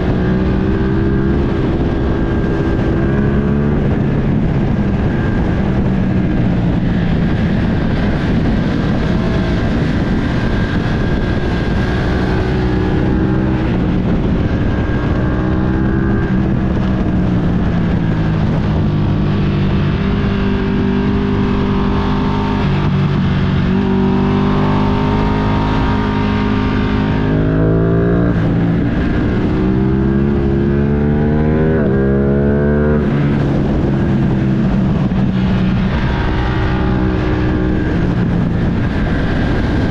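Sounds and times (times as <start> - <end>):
motorcycle engine accelerating: 0.0 - 39.9
wind rushing: 0.0 - 39.9.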